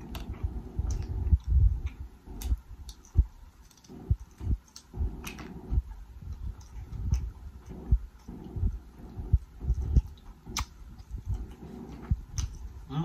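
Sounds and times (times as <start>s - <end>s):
wet mouth clicks and smacks: 0.0s - 12.7s
jaw thumps while chewing: 0.0s - 12.8s.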